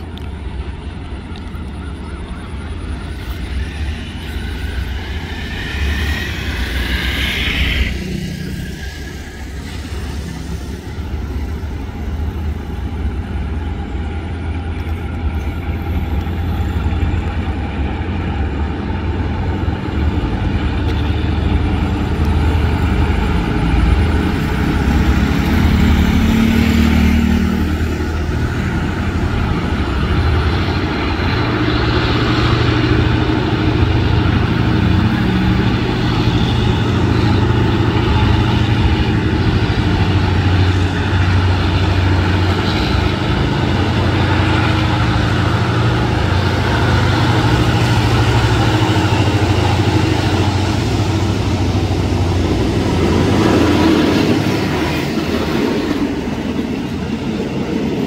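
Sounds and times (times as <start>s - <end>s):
diesel train engine and rail rumble: 0.0s - 58.0s.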